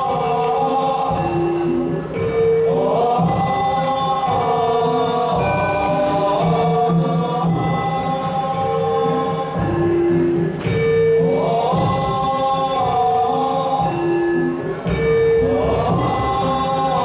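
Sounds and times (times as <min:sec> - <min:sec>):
repeating drum pattern: 0:00.0 - 0:17.0
voices singing held notes: 0:00.0 - 0:17.0.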